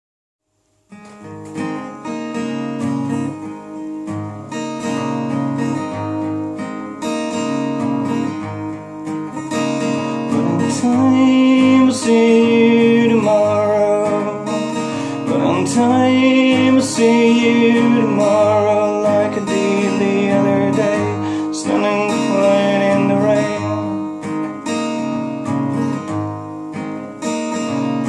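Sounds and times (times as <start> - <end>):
acoustic guitar strumming chords: 0.7 - 28.0.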